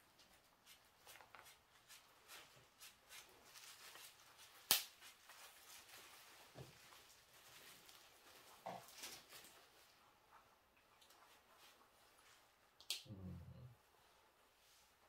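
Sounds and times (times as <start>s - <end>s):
faint taps and rustles: 0.1s - 12.6s.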